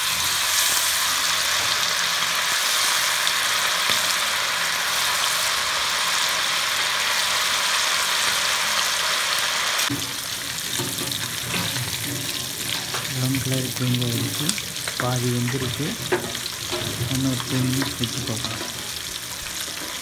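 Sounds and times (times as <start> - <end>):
fish deep-frying in oil: 0.0 - 20.0.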